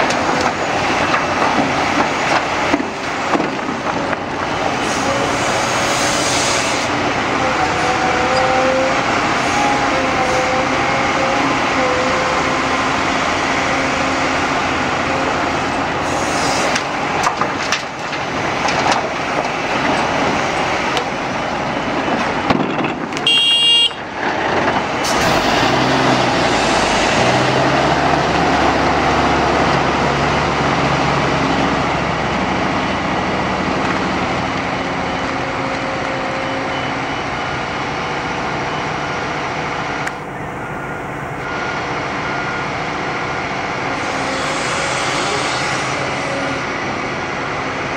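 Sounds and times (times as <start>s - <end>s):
excavator diesel engine under load: 0.0s - 47.9s.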